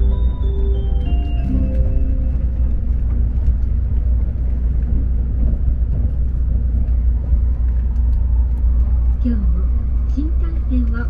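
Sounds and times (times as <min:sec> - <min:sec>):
train running low rumble: 0:00.0 - 0:11.0.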